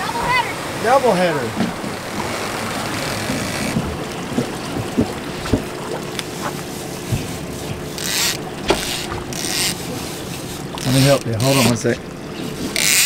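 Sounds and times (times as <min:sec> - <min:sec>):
outboard motors running: 0:00.0 - 0:13.0
water rushing past hull: 0:00.0 - 0:13.0.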